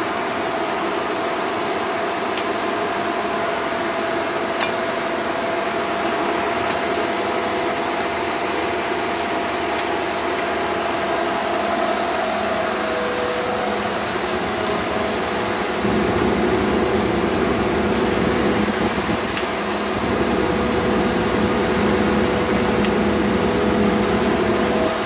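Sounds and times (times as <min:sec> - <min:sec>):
lathe whirring with whine: 0:00.0 - 0:25.0
low machine whine: 0:00.0 - 0:25.0.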